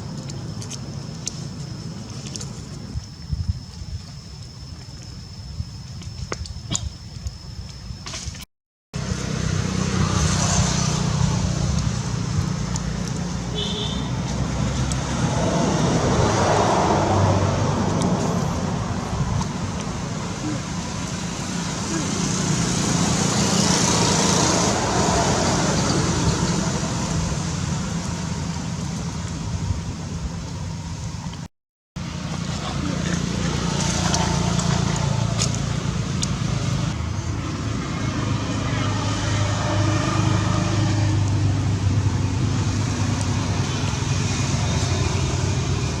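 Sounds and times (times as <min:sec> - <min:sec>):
road traffic rumble and hiss: 0:00.0 - 0:07.0, 0:09.0 - 0:46.0
engine hum: 0:09.0 - 0:46.0.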